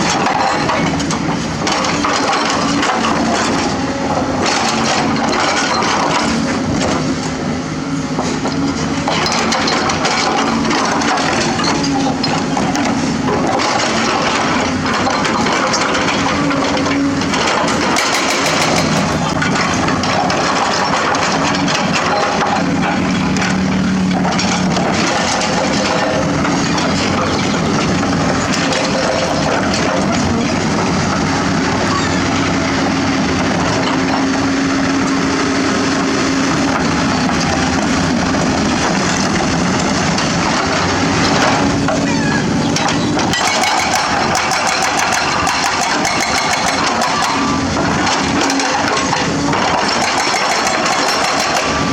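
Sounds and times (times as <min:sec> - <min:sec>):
excavator bucket crunching pavement: 0:00.0 - 0:07.4, 0:08.2 - 0:51.9
diesel engine under load: 0:00.0 - 0:51.9.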